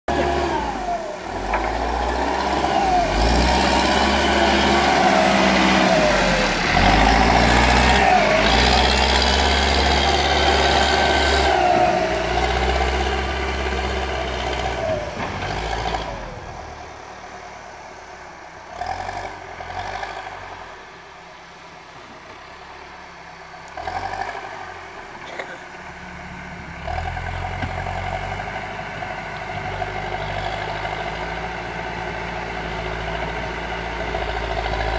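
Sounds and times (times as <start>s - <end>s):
diesel engine revving: 0.1s - 34.9s.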